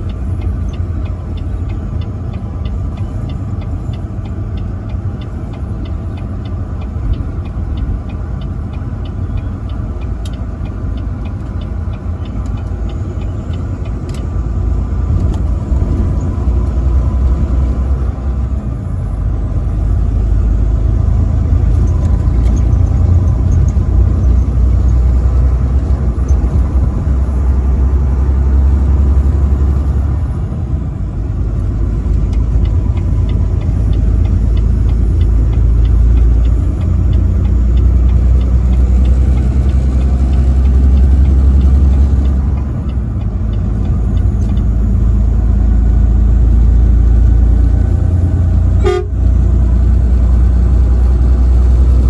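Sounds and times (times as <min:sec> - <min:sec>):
faint regular ticking: 0:00.0 - 0:30.2, 0:31.0 - 0:48.7
truck engine and road noise: 0:00.0 - 0:52.0.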